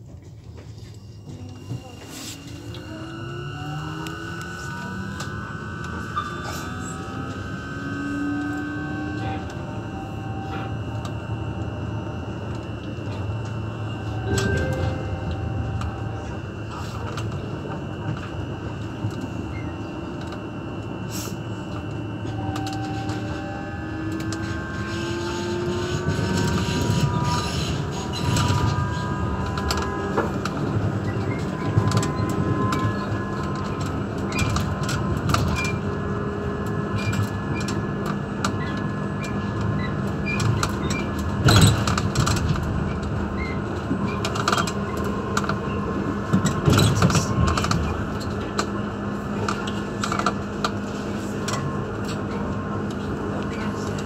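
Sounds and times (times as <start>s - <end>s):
tram wheels rumbling: 0.0s - 54.0s
rising multi-tone whine: 0.2s - 54.0s.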